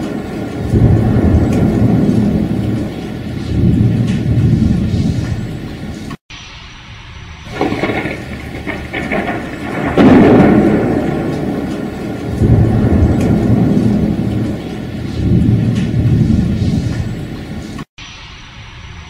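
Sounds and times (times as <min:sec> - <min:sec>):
thunder rumbling: 0:00.0 - 0:06.2, 0:07.4 - 0:17.9
rain hissing: 0:00.0 - 0:19.0.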